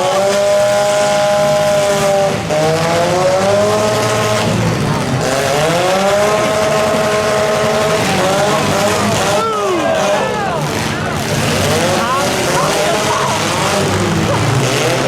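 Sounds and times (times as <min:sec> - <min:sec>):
car engines revving at full throttle: 0:00.0 - 0:15.0
rumble of other engines: 0:00.0 - 0:15.0.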